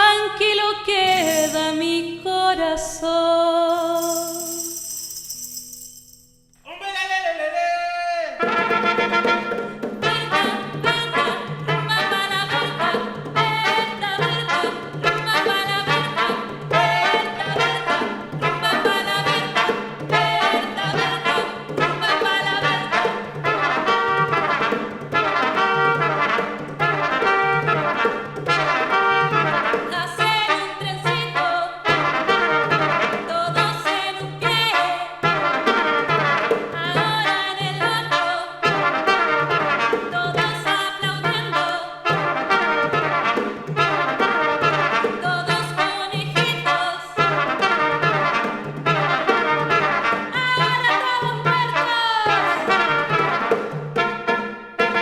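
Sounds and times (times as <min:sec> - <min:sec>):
trumpet: 0:01.0 - 0:01.7, 0:06.7 - 0:55.0
brass ensemble playing: 0:08.4 - 0:55.0
trombone: 0:08.4 - 0:55.0.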